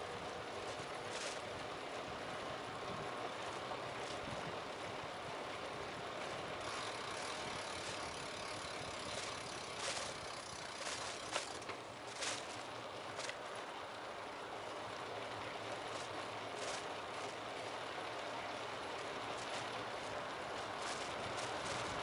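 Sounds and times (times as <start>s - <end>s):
bicycle rolling: 0.0s - 22.0s
bike rattles and clicks: 0.0s - 22.0s.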